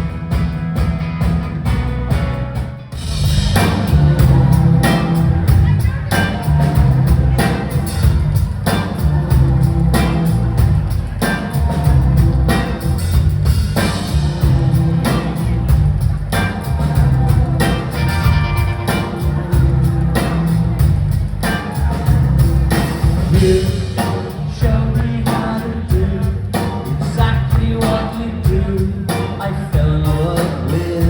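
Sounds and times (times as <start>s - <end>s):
drum kit beat: 0.0s - 31.0s
live rock band playing: 0.0s - 31.0s.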